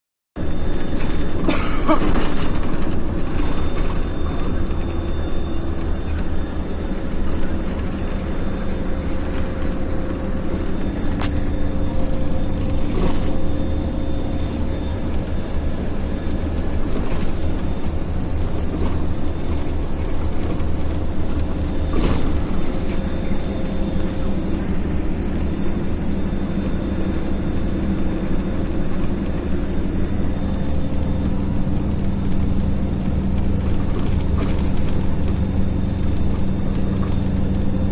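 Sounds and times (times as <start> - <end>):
moving vehicle rumble and hum: 0.4 - 37.9.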